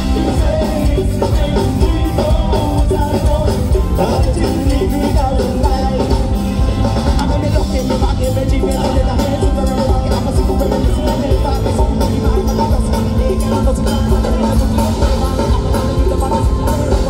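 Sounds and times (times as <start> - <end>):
live pop band playing: 0.0 - 17.0
men singing into microphones: 0.0 - 17.0.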